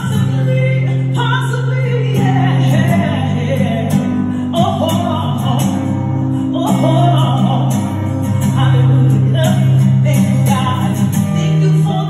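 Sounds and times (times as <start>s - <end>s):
buskers playing music: 0.0s - 12.0s
person singing: 0.0s - 12.0s.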